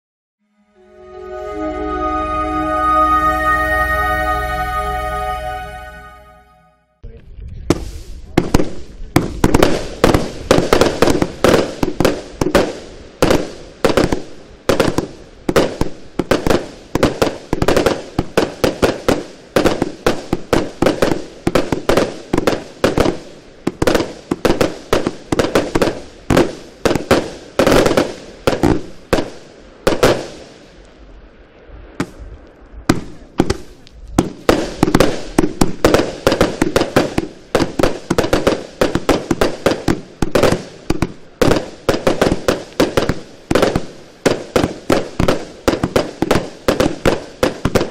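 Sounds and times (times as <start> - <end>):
firework aerial bursts: 7.8 - 30.8, 31.8 - 47.9.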